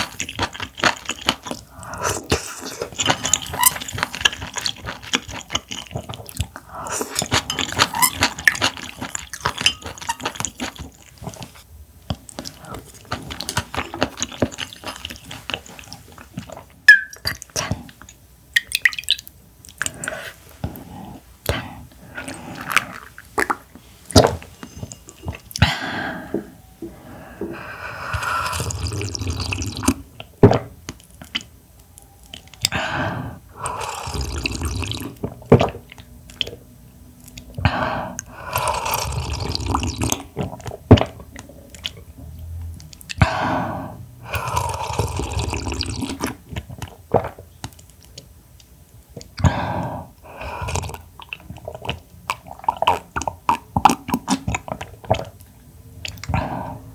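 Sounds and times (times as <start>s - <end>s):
wet chewing and slurping: 0.0s - 56.9s.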